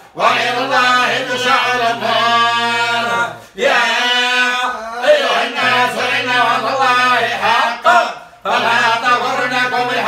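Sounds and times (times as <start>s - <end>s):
men chanting a recitation: 0.0s - 10.0s.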